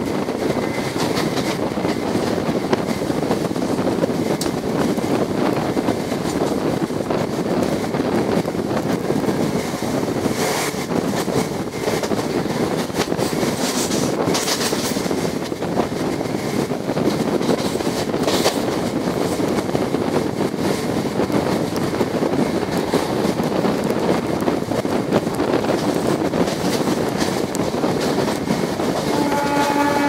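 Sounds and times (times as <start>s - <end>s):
train rumbling along track: 0.0s - 30.0s
wind on microphone: 0.0s - 30.0s.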